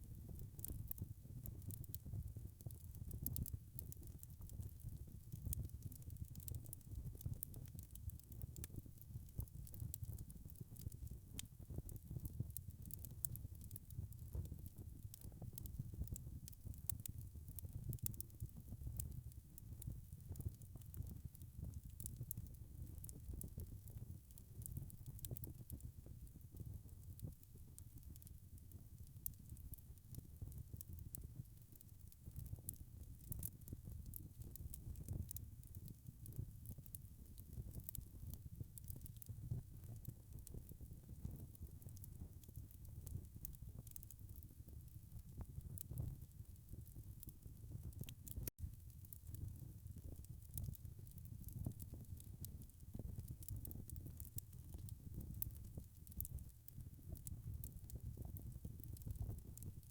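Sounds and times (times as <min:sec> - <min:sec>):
sharp pops and snaps of fire: 0:00.0 - 0:59.9
wood fire crackling: 0:00.1 - 0:59.9.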